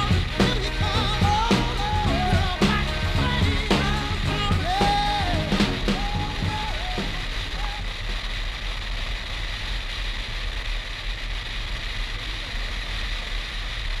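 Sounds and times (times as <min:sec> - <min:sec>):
motorcycle engine drone: 0:00.0 - 0:14.0.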